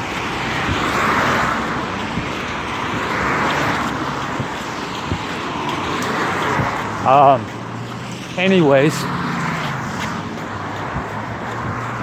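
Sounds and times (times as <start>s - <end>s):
cars passing on wet road: 0.0s - 12.0s.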